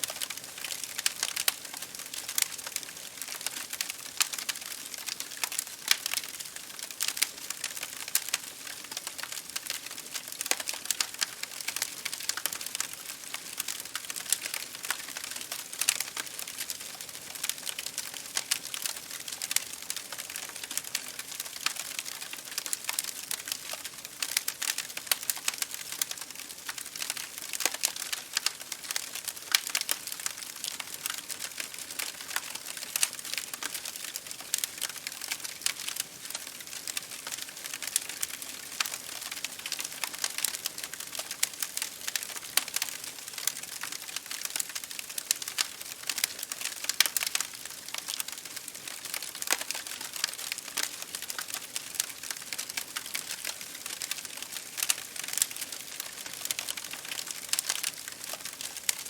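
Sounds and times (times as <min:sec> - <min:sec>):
rain pattering on a window: 0:00.0 - 0:59.0
wood fire crackling and popping: 0:00.0 - 0:59.0.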